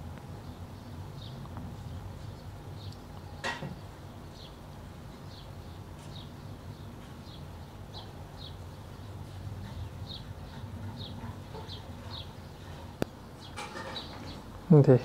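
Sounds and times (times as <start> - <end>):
small bird chirping: 0.3 - 15.0.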